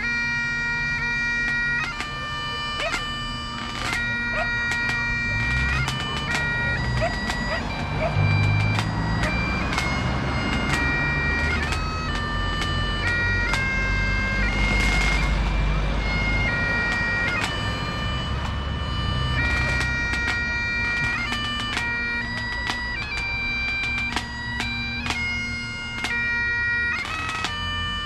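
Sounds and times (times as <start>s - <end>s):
bagpipes playing a tune: 0.0s - 28.0s
passing cars rumbling: 0.0s - 28.0s.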